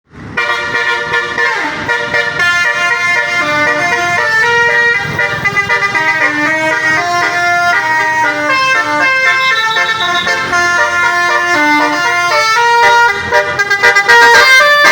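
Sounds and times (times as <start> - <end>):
multi-tone air horn melody: 0.4 - 14.9.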